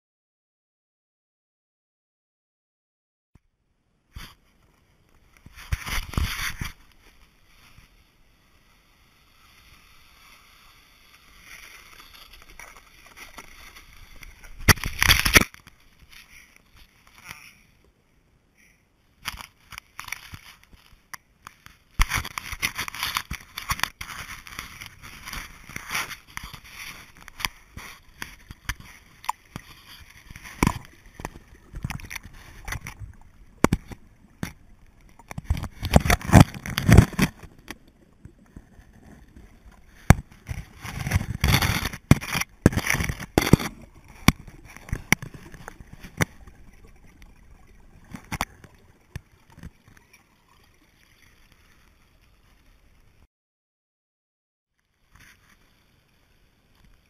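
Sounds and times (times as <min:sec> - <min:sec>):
scraping on snow and rock: 0:04.1 - 0:17.8, 0:19.2 - 0:52.6.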